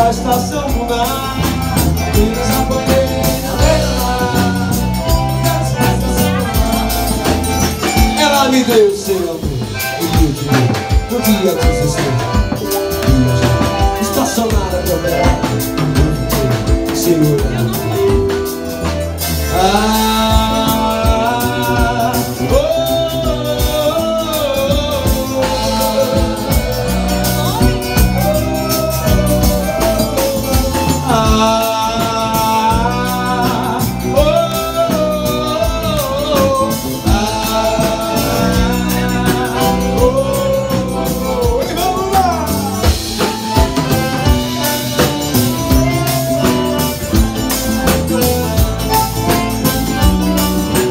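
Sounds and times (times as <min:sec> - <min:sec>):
accordion: 0:00.0 - 0:50.9
bass drum: 0:00.0 - 0:50.9
drum kit: 0:00.0 - 0:50.9.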